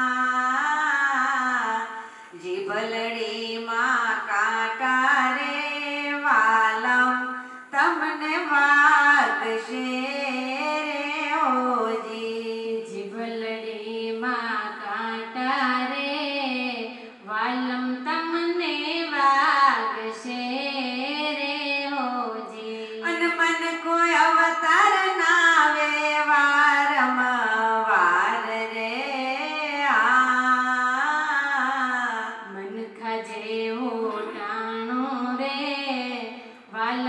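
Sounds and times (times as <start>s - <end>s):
women singing devotional song: 0.0s - 37.0s.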